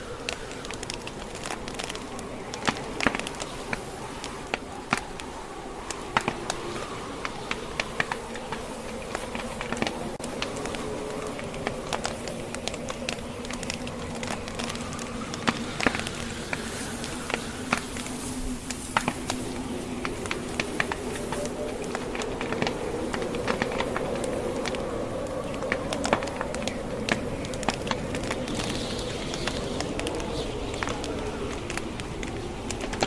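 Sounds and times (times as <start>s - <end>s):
steady hiss: 0.0s - 33.0s
wood fire crackling: 0.0s - 33.0s.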